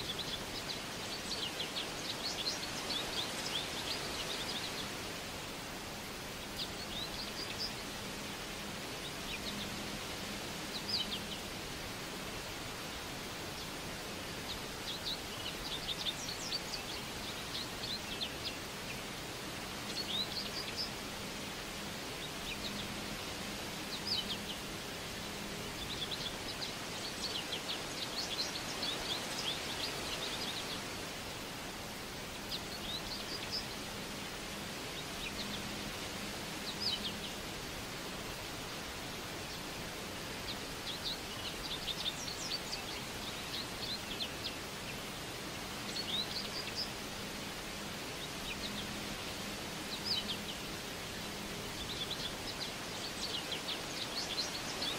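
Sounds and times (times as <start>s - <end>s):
songbirds chirping: 0.0s - 54.9s
steady background hiss: 0.0s - 54.9s.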